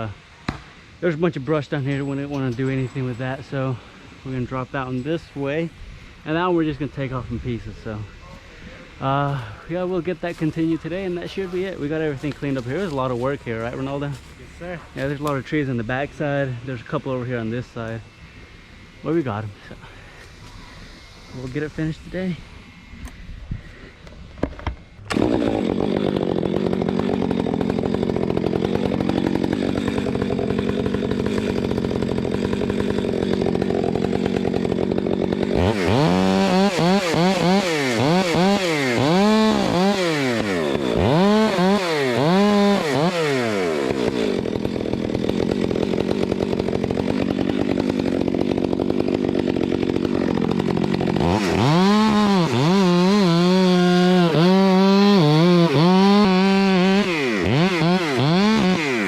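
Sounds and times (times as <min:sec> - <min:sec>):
chainsaw cutting wood: 0:00.0 - 0:06.8, 0:09.2 - 0:23.2, 0:24.3 - 0:59.0.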